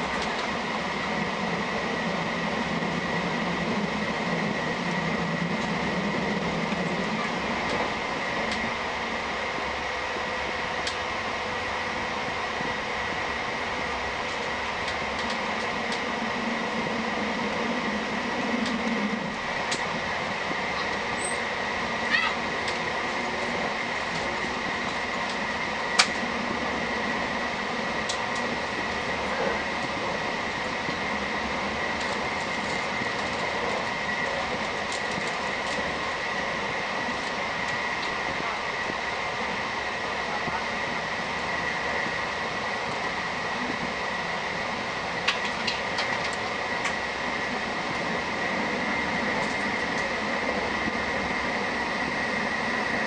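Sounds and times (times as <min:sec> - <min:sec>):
train coach running noise: 0:00.0 - 0:53.0.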